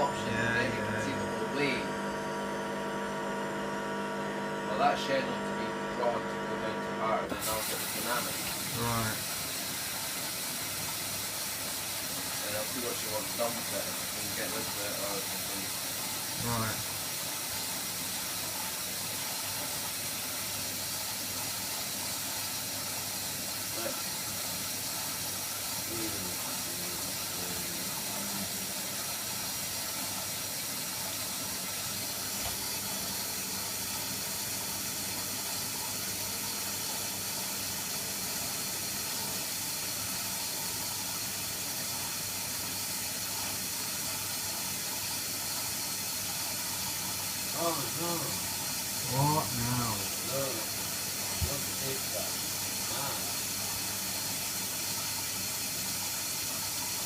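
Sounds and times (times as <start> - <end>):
water rushing into washing machine: 0.0 - 57.0.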